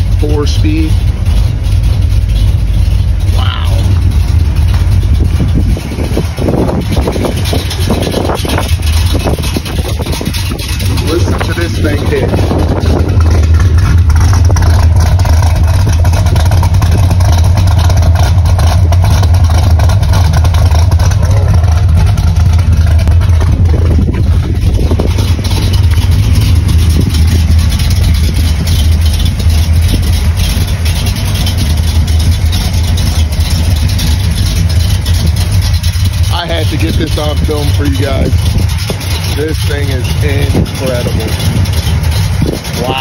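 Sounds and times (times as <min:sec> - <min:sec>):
loud car engine idling: 0:00.0 - 0:43.0.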